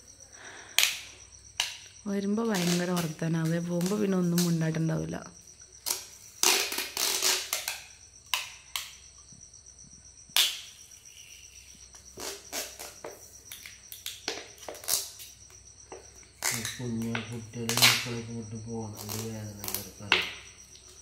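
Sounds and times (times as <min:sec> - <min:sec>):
cricket trill: 0:00.0 - 0:21.0.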